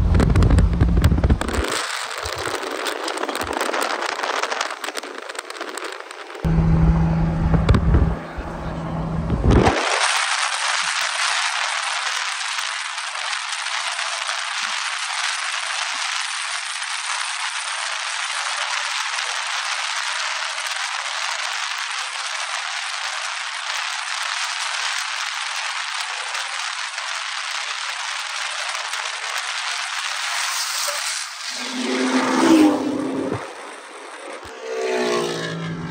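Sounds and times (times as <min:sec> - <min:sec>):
wind noise on moving car: 0:00.0 - 0:30.4, 0:32.0 - 0:34.1.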